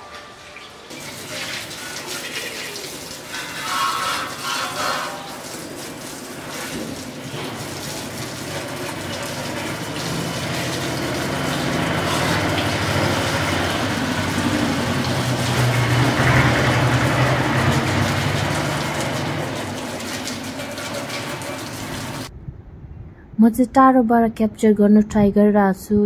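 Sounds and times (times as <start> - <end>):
pressure washer motor hum: 0.0 - 22.3
water jet spraying: 0.7 - 22.3.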